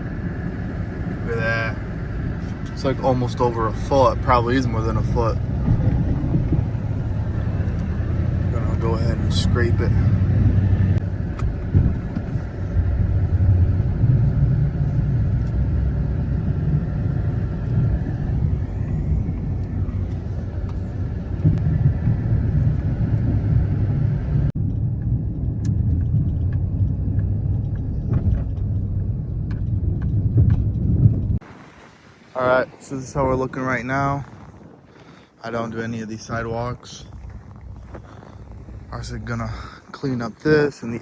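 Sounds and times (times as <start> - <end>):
plow pushing snow: 0.0 - 30.8, 31.4 - 41.0
truck engine under load: 0.0 - 31.5, 33.2 - 41.0.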